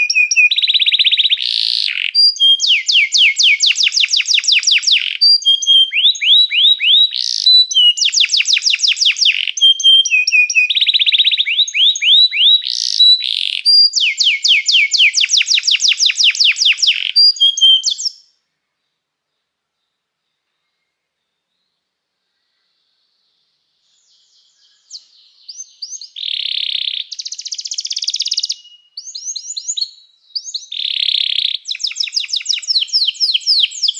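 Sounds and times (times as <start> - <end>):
canary singing trills: 0.0 - 18.3, 24.0 - 33.9.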